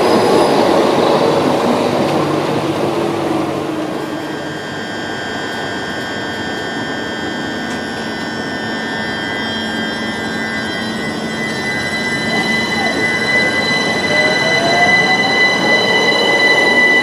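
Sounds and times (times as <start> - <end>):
electric train equipment hum: 0.0 - 17.0
high steady whining tones: 0.0 - 17.0
train noise rushing: 0.0 - 17.0.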